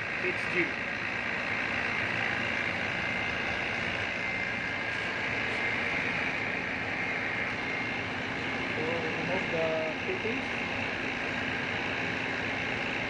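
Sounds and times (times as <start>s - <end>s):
machinery noise: 0.0s - 13.0s
thin high whine: 0.0s - 13.0s.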